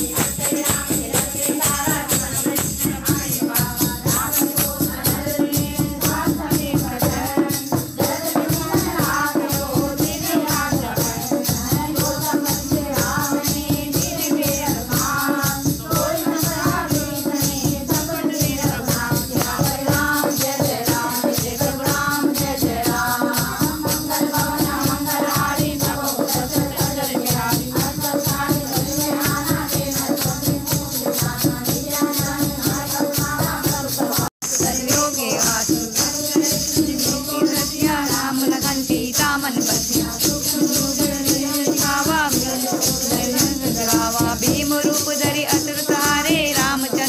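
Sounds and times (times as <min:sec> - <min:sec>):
shaken percussion: 0:00.0 - 0:47.0
women singing in unison: 0:00.0 - 0:47.0.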